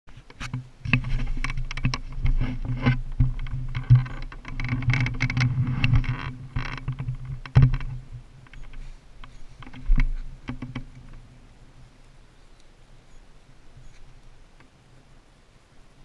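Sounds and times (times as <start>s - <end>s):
rustling: 0.1s - 16.0s
steady low hum: 0.1s - 16.0s.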